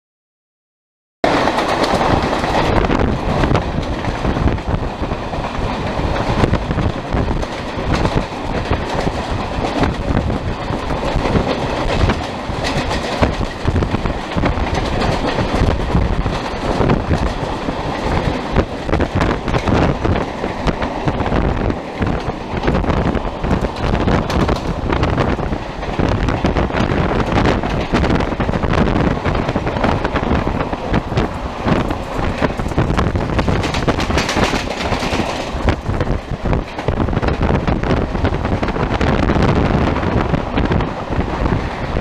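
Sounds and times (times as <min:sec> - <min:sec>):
clatter over the track: 0:01.2 - 0:42.0
train wheels rumbling on rails: 0:01.2 - 0:42.0.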